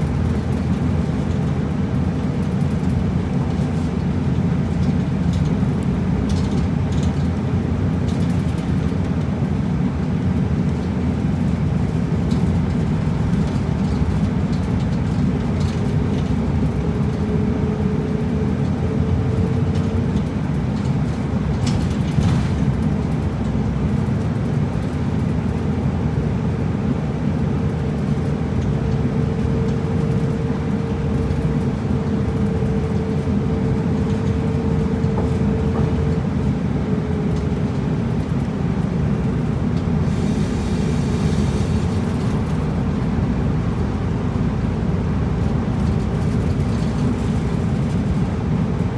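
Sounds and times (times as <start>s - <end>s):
bus engine and road noise: 0.0s - 48.9s.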